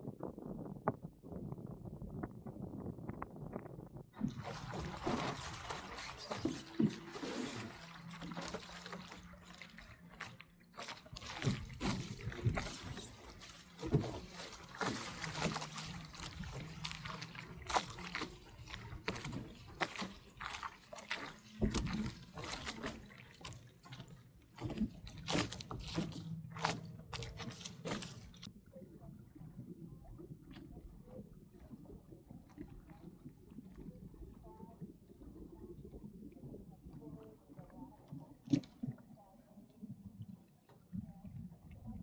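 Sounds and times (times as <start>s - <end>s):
waves lapping against hull: 0.0s - 42.0s
water splashes: 4.2s - 42.0s.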